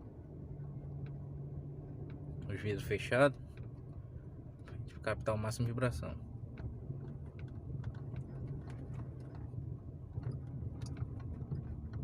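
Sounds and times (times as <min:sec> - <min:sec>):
road and engine rumble: 0:00.0 - 0:12.0
light creaks and ticks: 0:01.9 - 0:12.0.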